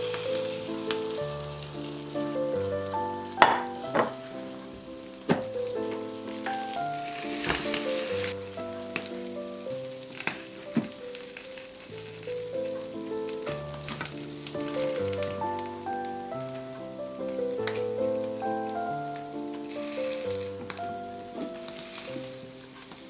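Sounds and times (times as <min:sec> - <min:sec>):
food sizzling in a frying pan: 0:00.0 - 0:23.0
soft piano music: 0:00.0 - 0:23.0.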